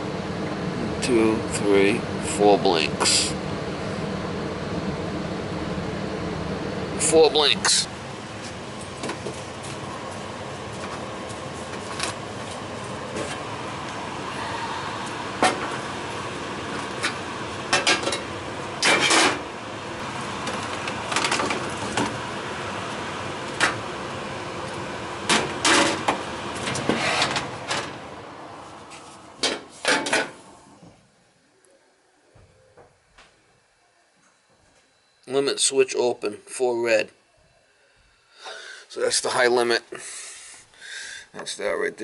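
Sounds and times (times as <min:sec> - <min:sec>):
furnace blower fan running: 0:00.0 - 0:42.0.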